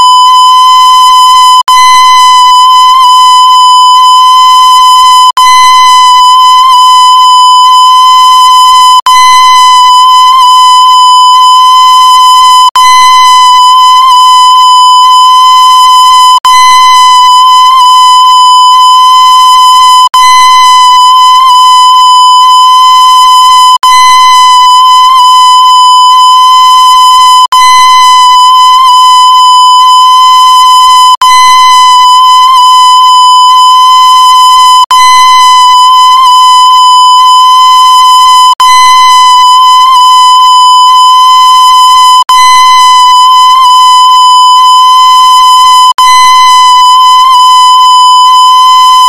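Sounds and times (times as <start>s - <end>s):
loud buzzy high tone: 0.0s - 49.0s.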